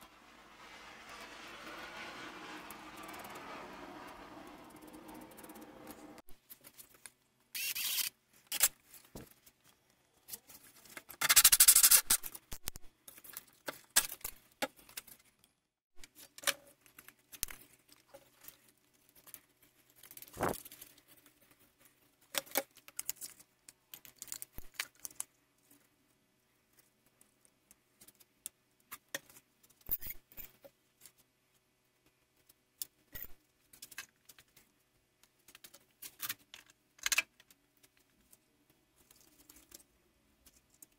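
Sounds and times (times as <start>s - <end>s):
small parts clicking and rustling: 4.7s - 40.9s.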